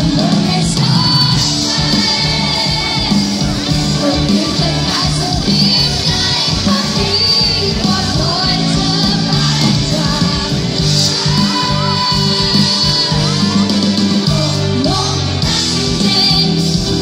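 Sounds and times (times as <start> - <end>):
live band music with singing: 0.0 - 17.0.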